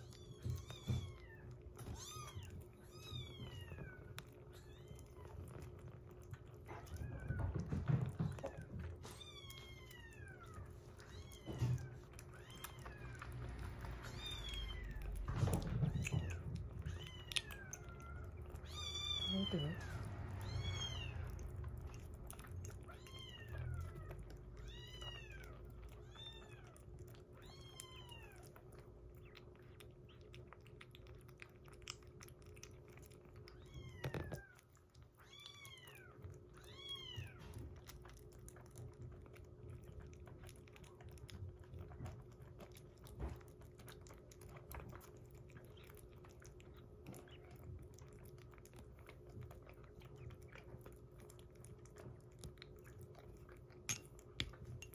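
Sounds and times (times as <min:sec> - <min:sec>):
kitten chewing and lapping: 0:00.0 - 0:54.9.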